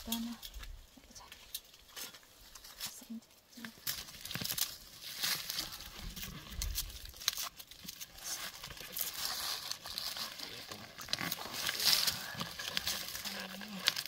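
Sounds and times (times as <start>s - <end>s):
dry leaves rustling and crackling: 0.0s - 14.0s.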